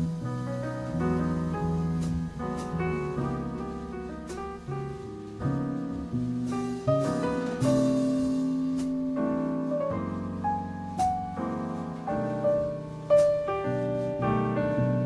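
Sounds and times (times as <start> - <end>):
piano melody with sustained chords: 0.0 - 15.0.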